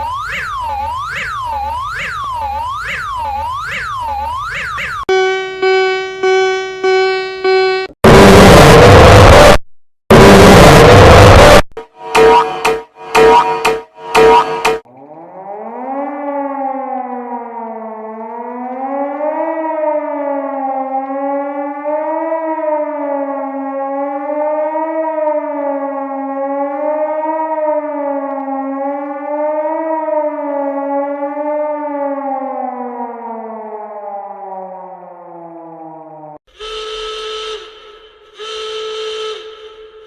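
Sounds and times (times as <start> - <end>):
warning siren wailing: 0.0 - 40.0.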